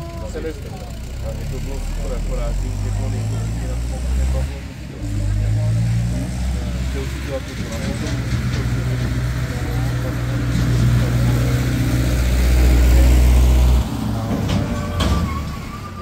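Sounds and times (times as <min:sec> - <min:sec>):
tractor engine running hard: 0:00.0 - 0:16.0.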